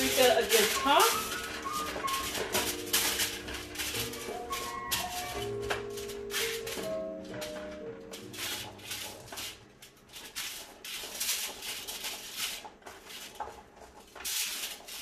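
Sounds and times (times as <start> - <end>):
foil rustling and crinkling: 0.0 - 15.0.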